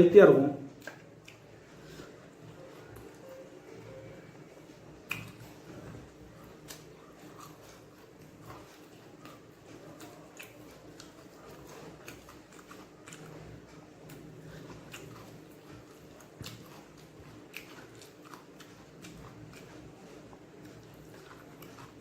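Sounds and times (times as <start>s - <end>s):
man chewing food: 0.6s - 22.0s.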